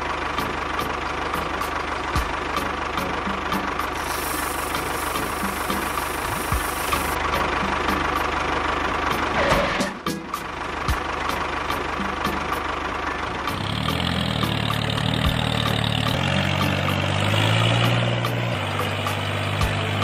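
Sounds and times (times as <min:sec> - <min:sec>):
tractor engine chugging: 0:00.0 - 0:20.0.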